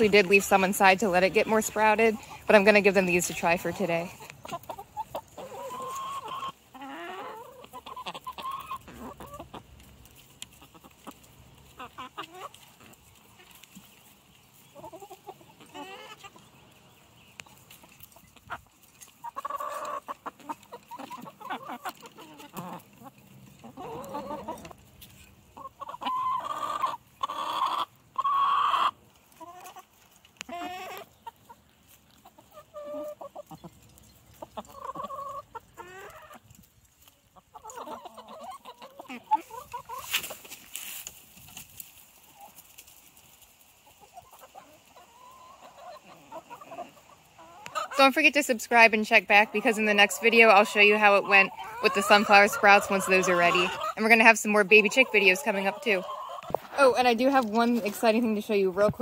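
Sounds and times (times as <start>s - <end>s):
hens clucking: 0.0s - 59.0s.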